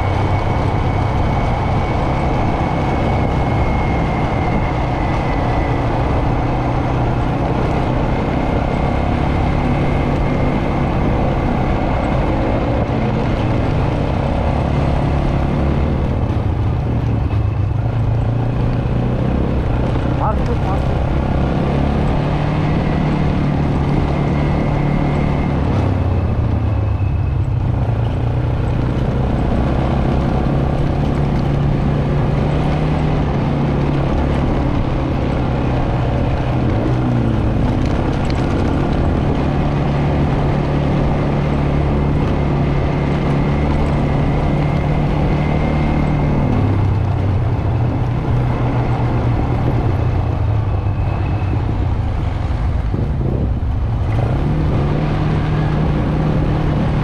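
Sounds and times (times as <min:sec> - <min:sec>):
atv engine running: 0:00.0 - 0:57.0
road and wind noise: 0:00.0 - 0:57.0.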